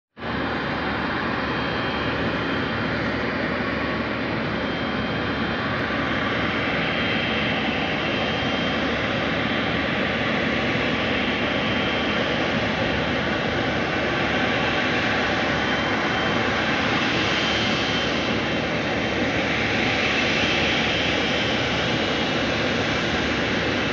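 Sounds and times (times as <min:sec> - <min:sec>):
jet engines running: 0:00.2 - 0:23.9.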